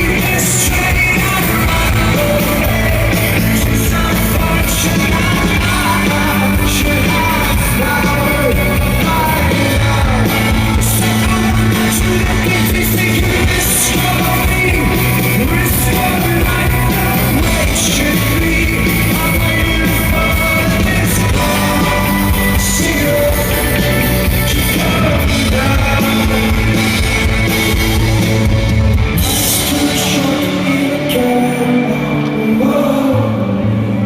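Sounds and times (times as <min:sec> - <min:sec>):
lead singer singing: 0:00.0 - 0:34.0
rock band playing live: 0:00.0 - 0:34.0.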